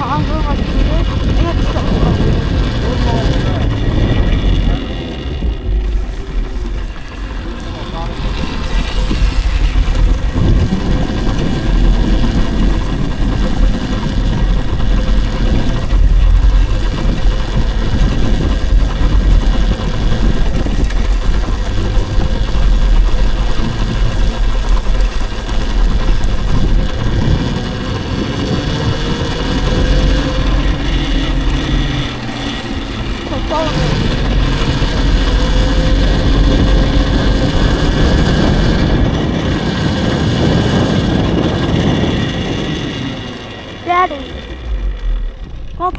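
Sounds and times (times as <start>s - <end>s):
electric motor whine: 0.0s - 45.9s
wind and tyre rumble: 0.0s - 45.9s.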